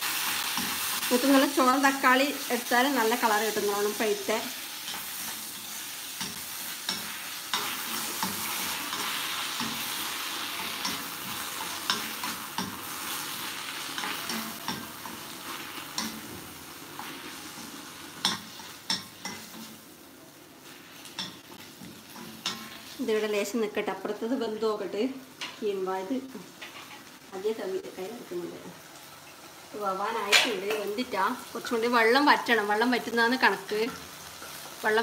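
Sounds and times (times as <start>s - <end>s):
vegetables sizzling in a pan: 0.0s - 35.0s.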